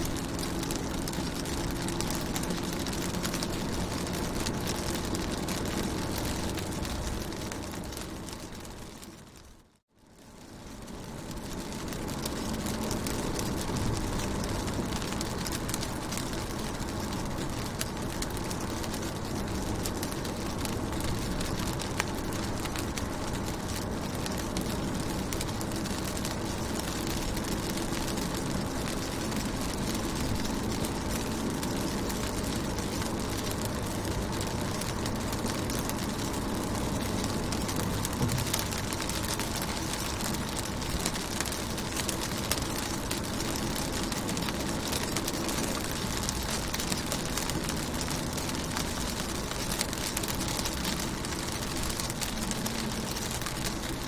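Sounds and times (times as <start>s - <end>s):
rain pattering on car window: 0.0s - 54.0s
low rumble: 10.4s - 53.8s.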